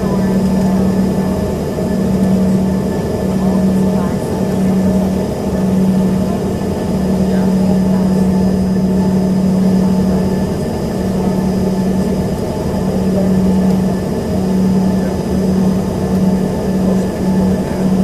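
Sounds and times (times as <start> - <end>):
jet engine cabin drone: 0.0 - 18.0.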